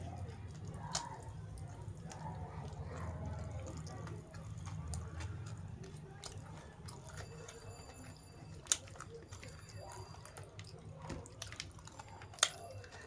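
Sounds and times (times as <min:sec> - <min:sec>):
person chewing food: 0:00.0 - 0:13.0
wet clicks: 0:00.0 - 0:13.0.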